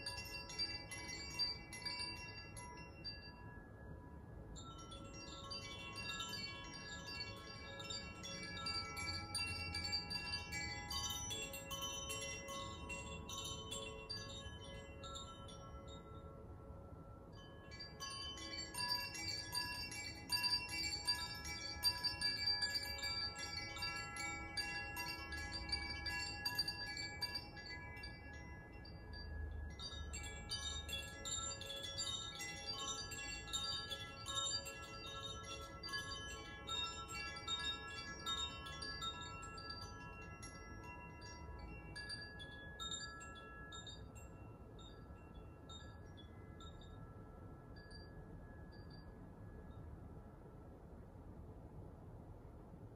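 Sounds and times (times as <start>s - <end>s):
wind chimes tinkling: 0.0s - 52.8s.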